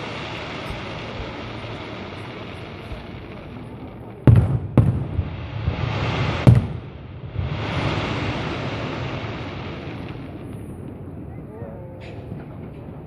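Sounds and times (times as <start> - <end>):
firework rising hiss: 0.0 - 11.1.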